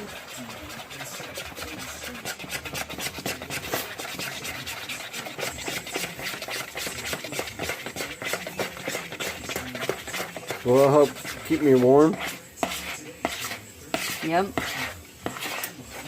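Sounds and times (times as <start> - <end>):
utensil scraping mixing bowl: 0.0 - 16.0.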